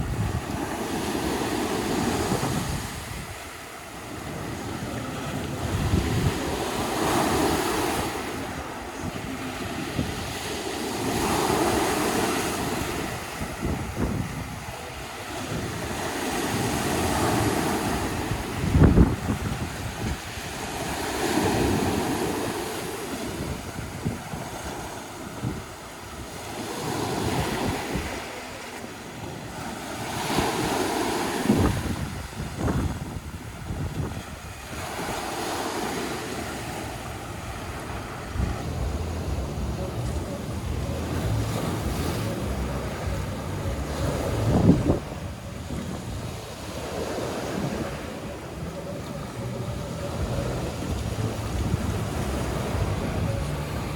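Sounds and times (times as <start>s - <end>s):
sea waves washing on shore: 0.0s - 53.9s
wind buffeting microphone: 0.0s - 53.9s.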